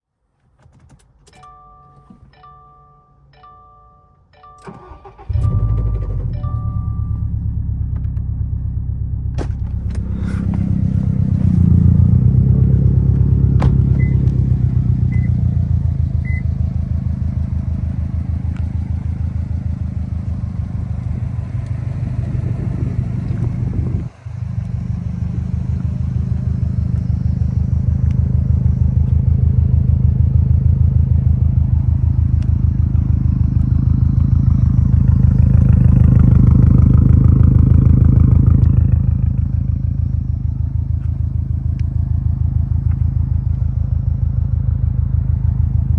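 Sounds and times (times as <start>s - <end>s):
car engine starting and idling: 0.7s - 45.9s.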